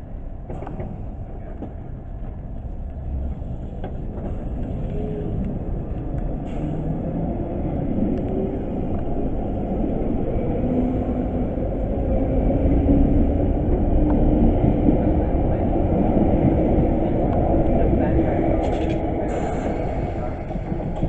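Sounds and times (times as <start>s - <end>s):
train rumbling away: 0.0s - 21.0s.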